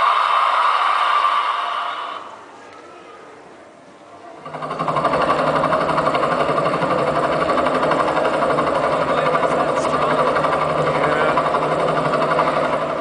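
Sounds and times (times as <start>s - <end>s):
engine with mechanical rattle: 0.0s - 2.3s, 4.4s - 13.0s.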